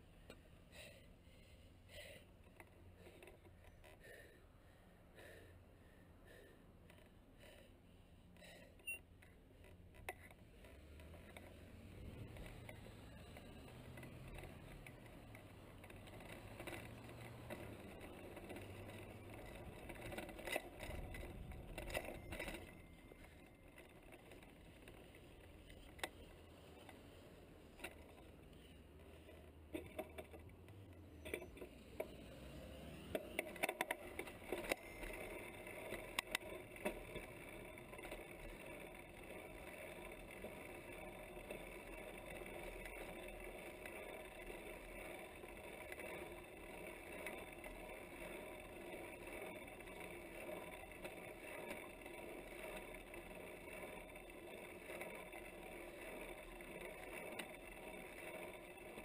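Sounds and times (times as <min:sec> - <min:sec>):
mountain bike riding rumble: 0:00.0 - 0:59.0
sharp clicks and rattles: 0:02.2 - 0:04.0, 0:08.3 - 0:59.0.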